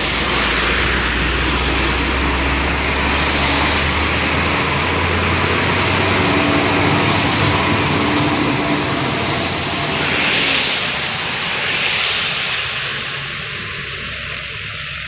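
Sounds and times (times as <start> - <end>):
tyres hissing on wet road: 0.0 - 15.0
vehicle engine rumble: 0.0 - 15.0.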